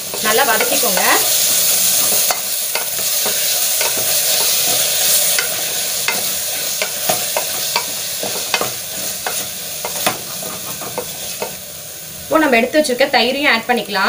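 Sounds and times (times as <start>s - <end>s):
food sizzling in a pot: 0.0s - 14.0s
spatula scraping and knocking pot: 0.1s - 11.6s.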